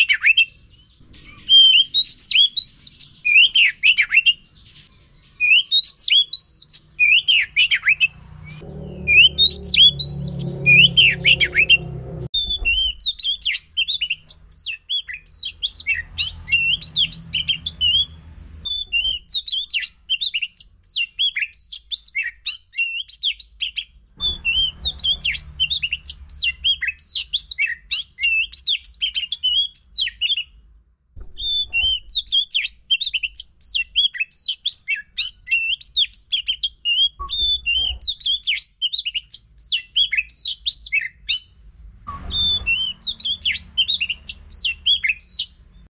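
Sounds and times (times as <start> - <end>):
songbird singing fast chirps: 0.0 - 11.8, 12.4 - 45.9.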